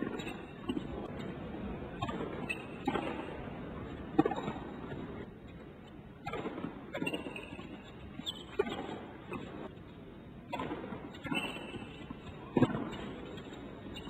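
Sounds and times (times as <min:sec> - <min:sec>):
tennis ball hits and bounces: 0:00.0 - 0:01.2, 0:02.0 - 0:05.0, 0:06.2 - 0:09.8, 0:10.5 - 0:14.0.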